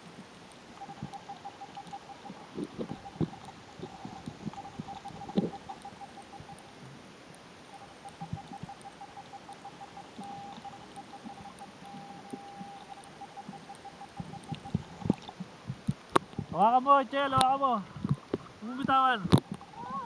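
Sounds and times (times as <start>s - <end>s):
faint rapidly pulsing whine: 0.0s - 20.0s
muffled underwater water sound: 0.0s - 20.0s.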